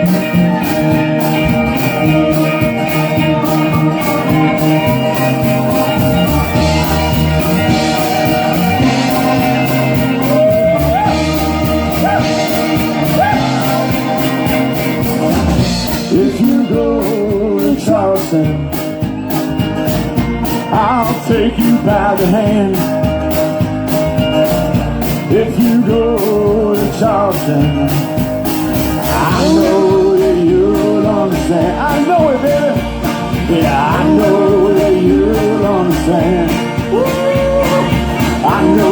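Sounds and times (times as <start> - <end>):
bass guitar: 0.0 - 38.9
drum beat: 0.0 - 38.9
rock guitar with bending notes: 0.0 - 38.9.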